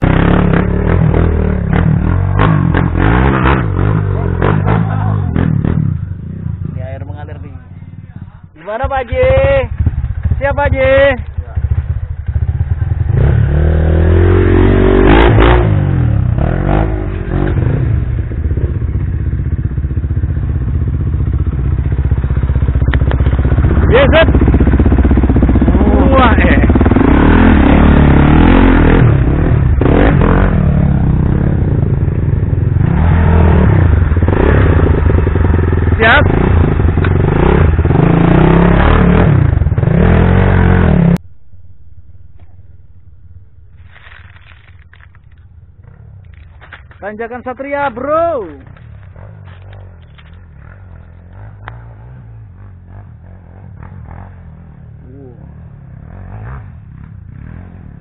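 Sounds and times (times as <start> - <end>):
faint low rumble: 0.0 - 58.0
motorcycle engine revving: 0.0 - 58.0.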